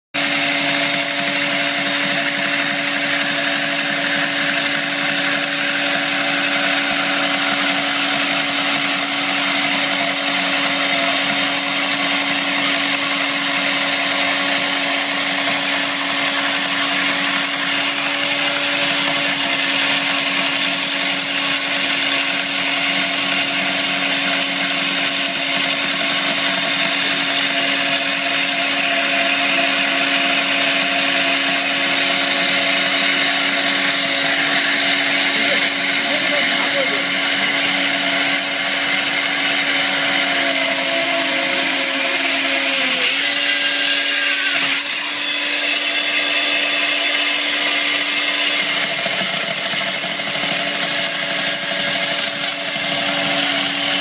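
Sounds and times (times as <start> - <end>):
chainsaw running with hiss: 0.2 - 54.0.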